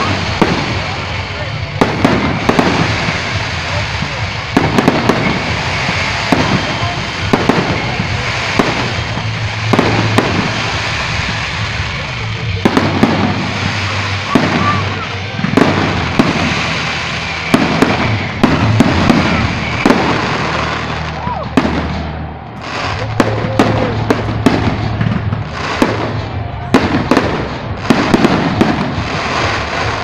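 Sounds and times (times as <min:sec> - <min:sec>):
firework shells bursting: 0:00.0 - 0:30.0
steady background noise: 0:00.0 - 0:30.0.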